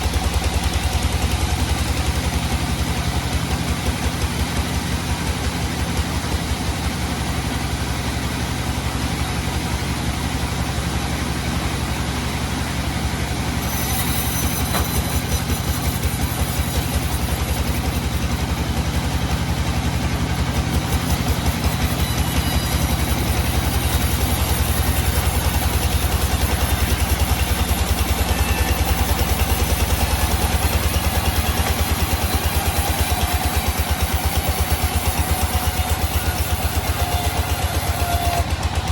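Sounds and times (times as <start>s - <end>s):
engine low throb: 0.0s - 38.9s.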